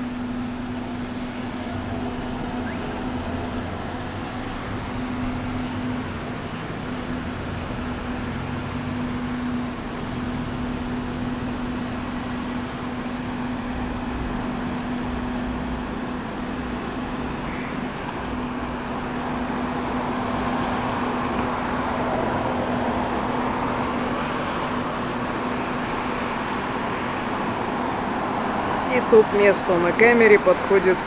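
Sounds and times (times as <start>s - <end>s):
street noise with low hum: 0.0s - 31.0s.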